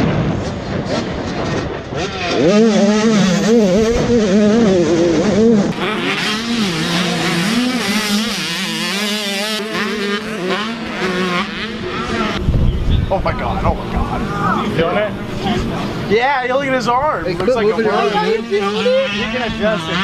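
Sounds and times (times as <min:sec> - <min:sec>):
dirt bike engines revving: 0:00.2 - 0:20.0.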